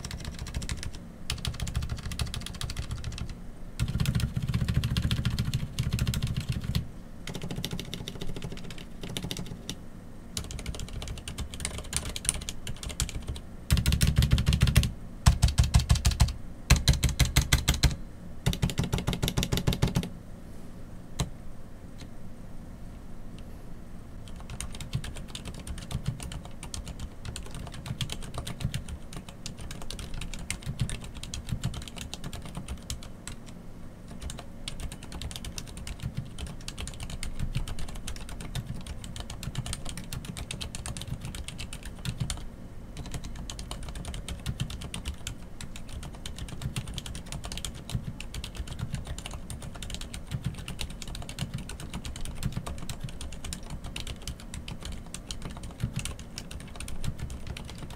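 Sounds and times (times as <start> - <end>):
fast typing on mechanical keyboard: 0.0 - 9.8, 10.4 - 20.1, 24.2 - 57.9.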